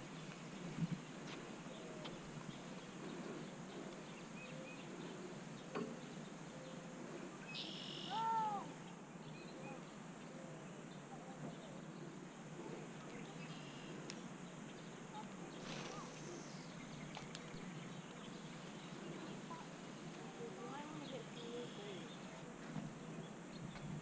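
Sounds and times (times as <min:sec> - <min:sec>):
faint bird chirps: 0:01.5 - 0:22.4.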